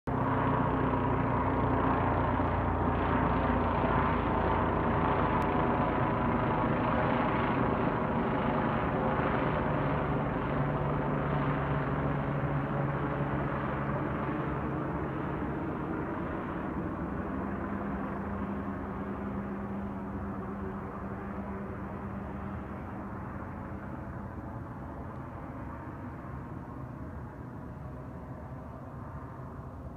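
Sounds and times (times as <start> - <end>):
helicopter rotor and turbine: 0.1 - 29.9.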